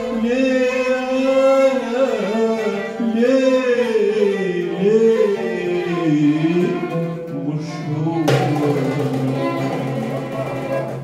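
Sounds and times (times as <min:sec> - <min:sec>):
man singing amplified: 0:00.0 - 0:11.0
plucked string instruments: 0:00.0 - 0:11.0.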